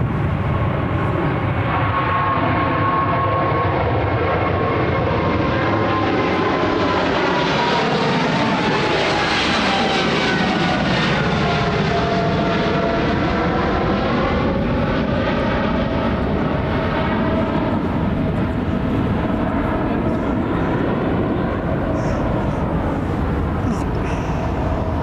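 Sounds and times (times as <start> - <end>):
jet airliner passing overhead: 0.0 - 25.0.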